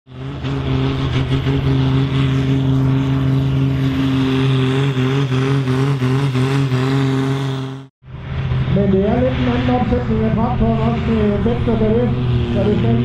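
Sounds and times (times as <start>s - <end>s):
diesel tractor engine at high revs: 0.1s - 13.0s.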